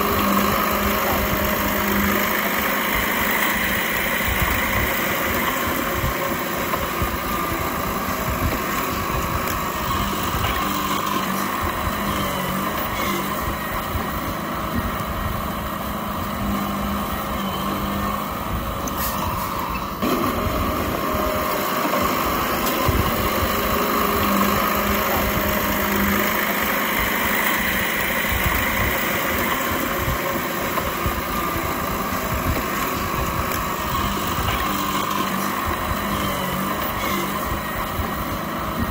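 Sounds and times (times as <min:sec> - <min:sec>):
bulldozer diesel engine drone: 0:00.0 - 0:38.9.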